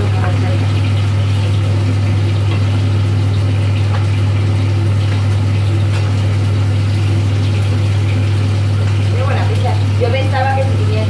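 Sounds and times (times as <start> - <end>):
loud low electric hum: 0.0 - 11.0.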